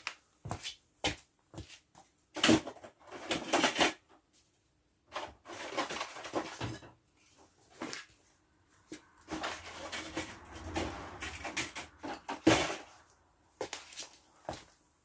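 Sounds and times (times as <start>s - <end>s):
rustling and scraping handling: 0.0s - 14.9s.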